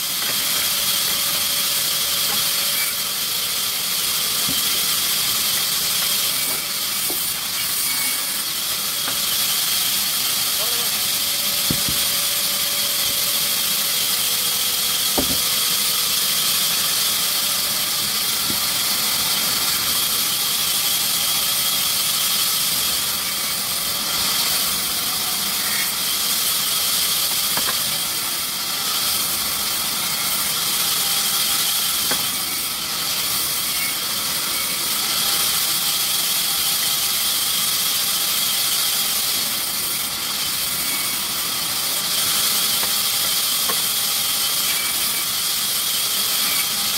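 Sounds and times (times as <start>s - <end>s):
sawmill machinery hissing: 0.0s - 46.9s.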